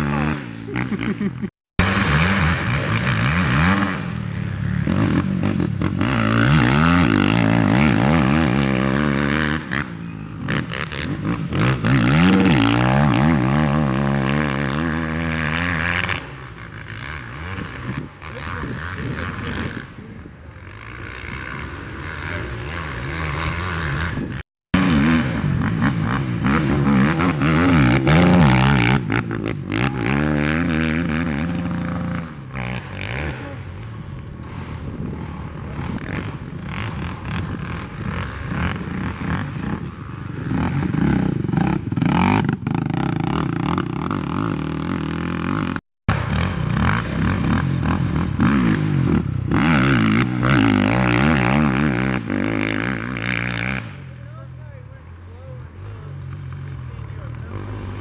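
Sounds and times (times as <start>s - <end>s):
atv engines revving: 0.0s - 58.0s.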